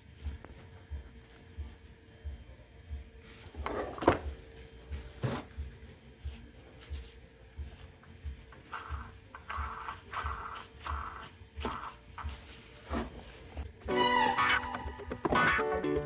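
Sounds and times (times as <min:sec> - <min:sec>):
faint background music with beat: 0:00.0 - 0:16.0.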